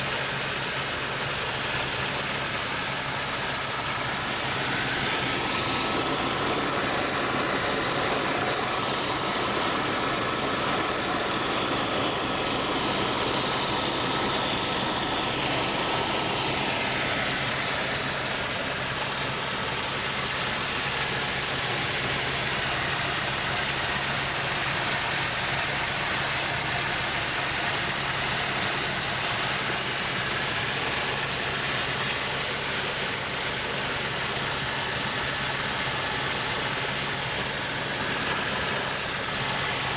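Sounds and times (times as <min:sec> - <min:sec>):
aircraft engine in flight: 0:00.0 - 0:39.9.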